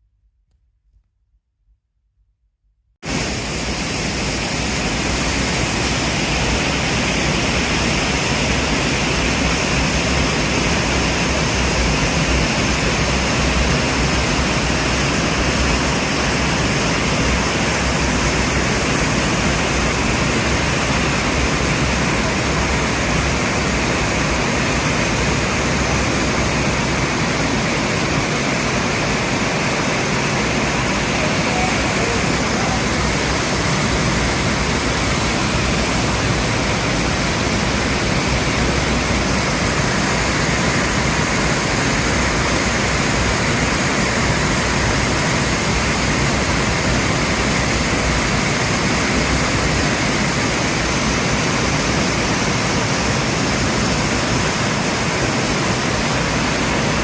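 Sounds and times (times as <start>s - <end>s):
loud rushing noise with rumble: 3.0s - 57.0s.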